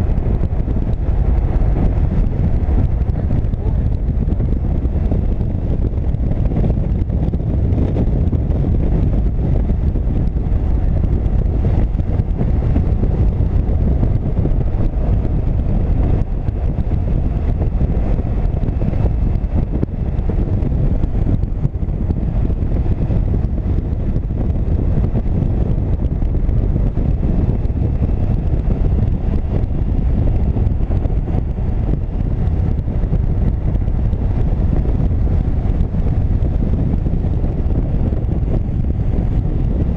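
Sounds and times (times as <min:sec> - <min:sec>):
motorcycle engine drone: 0:00.0 - 0:39.9
wind rush on microphone: 0:00.0 - 0:39.9.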